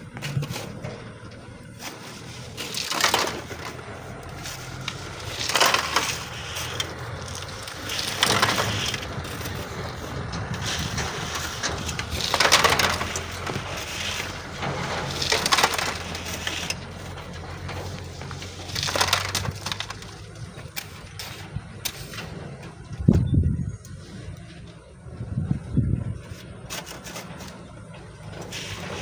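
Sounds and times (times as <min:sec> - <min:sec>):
shovel scraping sand and gravel: 0:00.0 - 0:00.9, 0:01.6 - 0:22.4, 0:26.3 - 0:29.0
low engine hum: 0:00.0 - 0:29.0.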